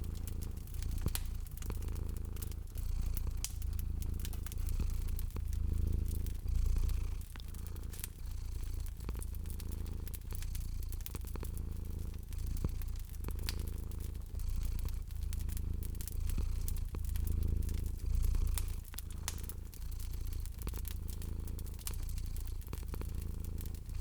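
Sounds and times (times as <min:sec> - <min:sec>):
cat purring: 0:00.0 - 0:24.0
wood fire crackling: 0:00.0 - 0:24.0.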